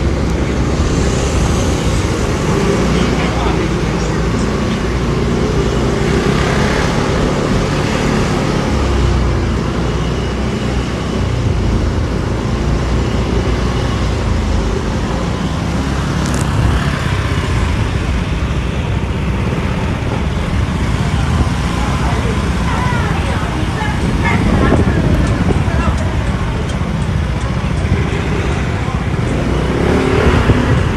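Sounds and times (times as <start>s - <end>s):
motor scooter engine: 0.0s - 30.9s
other scooters running: 0.0s - 30.9s.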